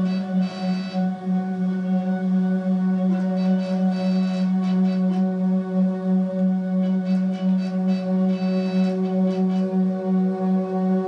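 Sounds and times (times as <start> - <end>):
hurdy-gurdy drone: 0.0 - 11.0.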